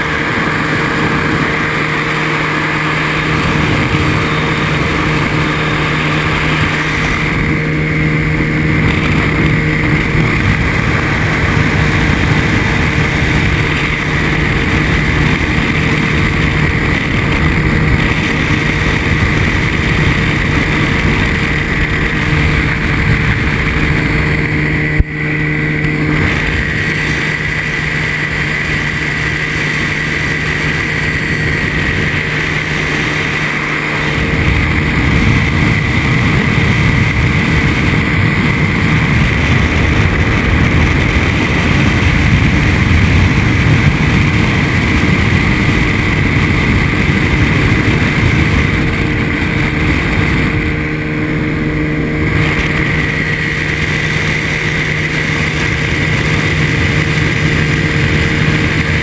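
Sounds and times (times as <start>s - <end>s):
aircraft engine and propeller: 0.0s - 59.0s
wind rush: 0.0s - 59.0s.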